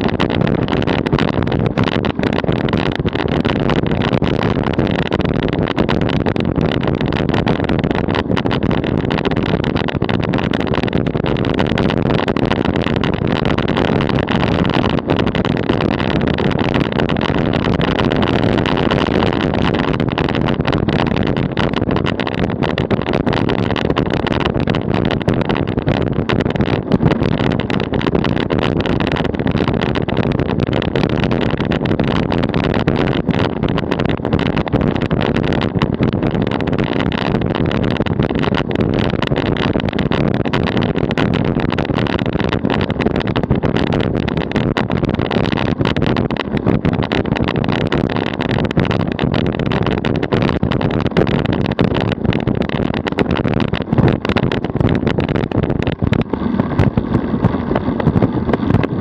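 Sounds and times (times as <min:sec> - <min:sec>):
tyres rumbling on asphalt: 0:00.0 - 0:59.0.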